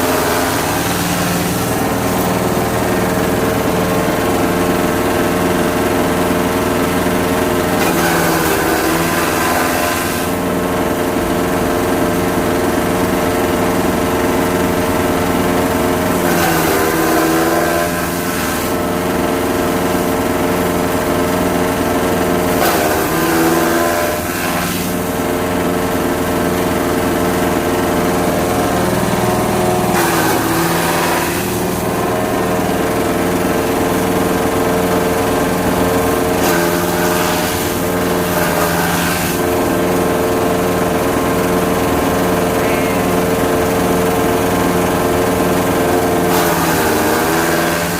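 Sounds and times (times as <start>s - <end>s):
grass chopper engine running: 0.0s - 47.9s.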